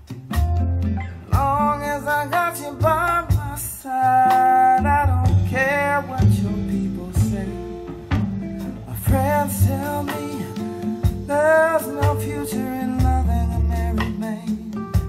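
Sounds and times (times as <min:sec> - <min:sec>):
song playing through speakers: 0:00.0 - 0:15.0.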